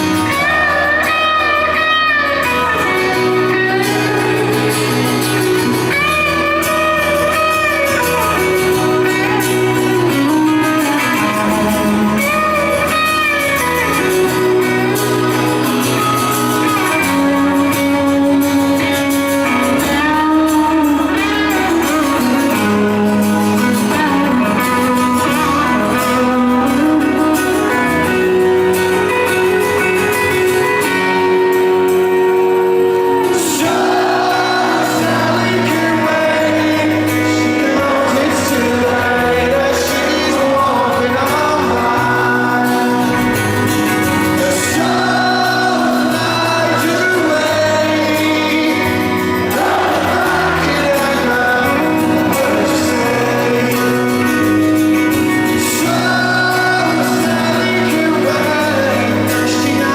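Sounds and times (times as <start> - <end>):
electric guitar melody with bends: 0.0 - 59.9
rock band playing over pa: 0.0 - 59.9.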